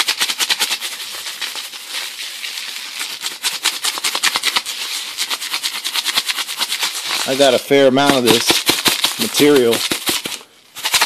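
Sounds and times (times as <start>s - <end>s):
powder rattling in shaken jar: 0.0s - 11.0s.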